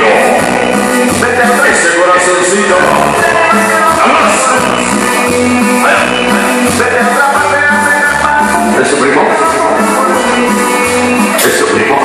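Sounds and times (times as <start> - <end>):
latin dance music over sound system: 0.0 - 12.0.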